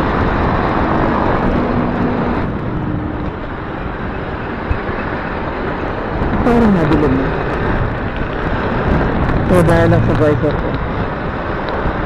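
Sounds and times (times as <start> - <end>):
motorcycle engine drone: 0.0 - 12.0
wind and road noise: 0.0 - 12.0.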